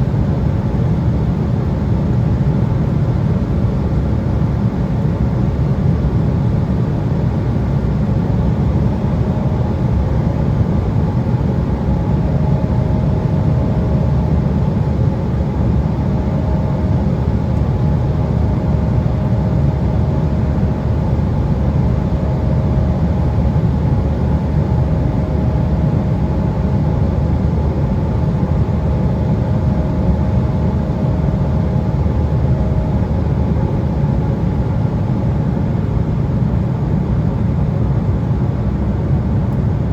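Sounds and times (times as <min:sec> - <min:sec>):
jet cabin drone: 0:00.0 - 0:39.9.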